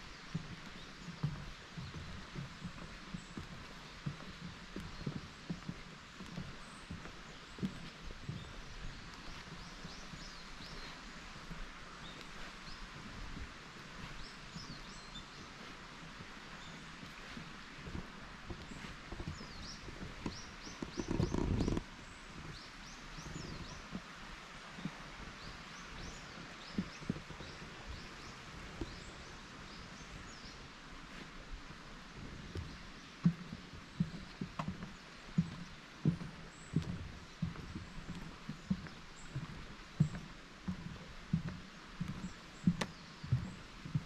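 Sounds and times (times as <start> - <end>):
birds chirping: 0.0 - 24.2, 24.8 - 44.0
background hiss: 0.0 - 44.0
footsteps on wooden deck: 0.0 - 44.0.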